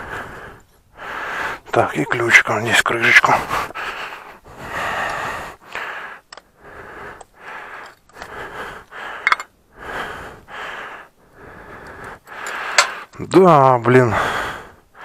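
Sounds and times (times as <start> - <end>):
person breathing heavily: 0.0 - 1.8, 3.2 - 13.2, 14.1 - 15.0.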